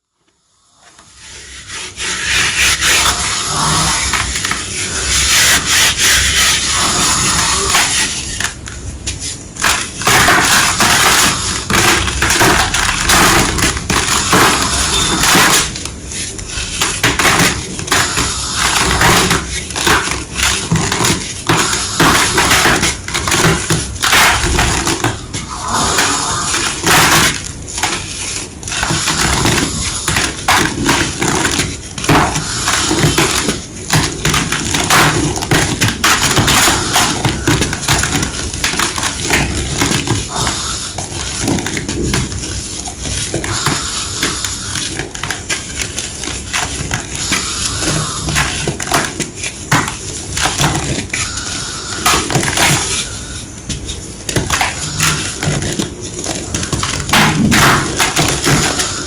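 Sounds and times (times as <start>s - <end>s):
chalk being crushed: 1.1s - 59.0s.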